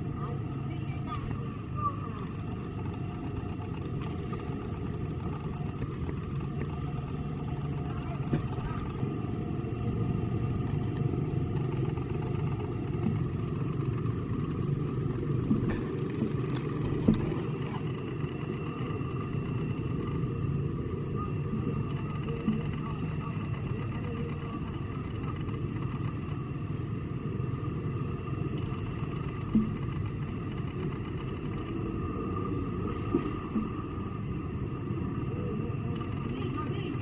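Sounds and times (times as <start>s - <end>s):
motor droning: 0.0s - 37.0s.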